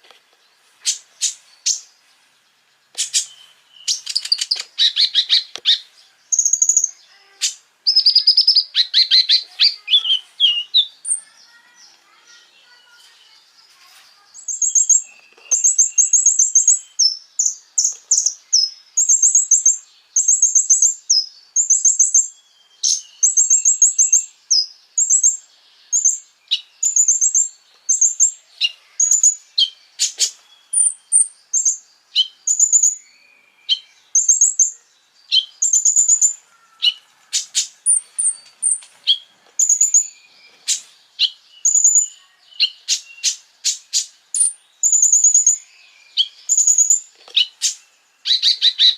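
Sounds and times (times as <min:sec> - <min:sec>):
songbird high trills: 0:03.0 - 0:12.9, 0:14.4 - 0:48.9.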